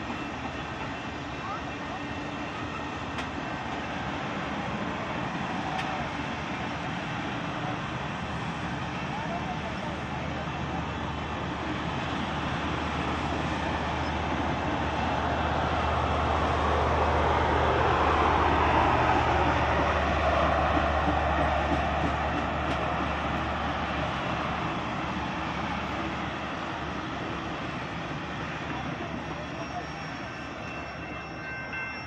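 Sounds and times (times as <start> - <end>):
train cars rolling on rails: 0.0 - 32.0.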